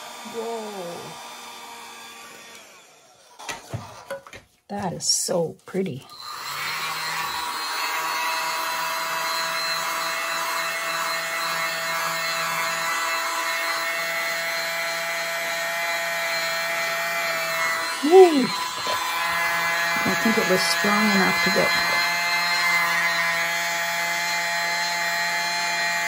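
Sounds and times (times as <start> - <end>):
hairdryer blowing: 0.0 - 4.2, 6.1 - 26.0.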